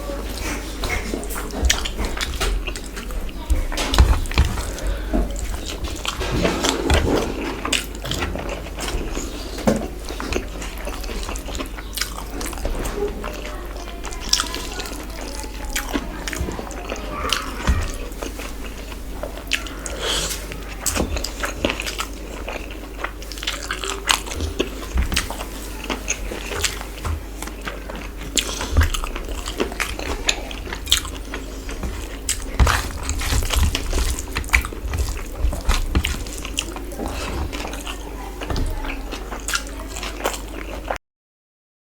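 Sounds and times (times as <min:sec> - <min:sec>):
person chewing and smacking: 0:00.2 - 0:41.0.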